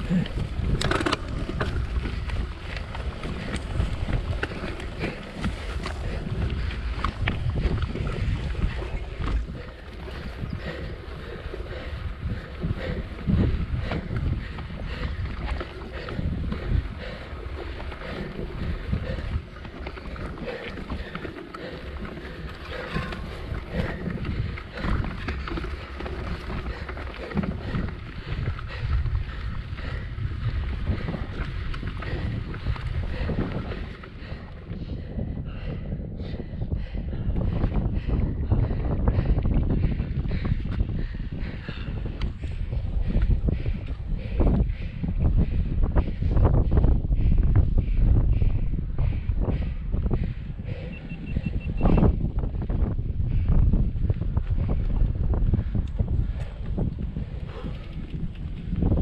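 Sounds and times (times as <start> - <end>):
bike clicks and rattles: 0.0 - 59.0
mountain bike rumble on dirt: 0.0 - 59.0
wind buffeting microphone: 0.0 - 59.0.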